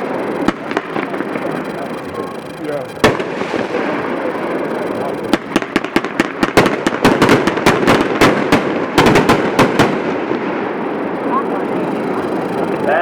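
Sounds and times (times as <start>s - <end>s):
firework sharp bangs: 0.0s - 12.9s.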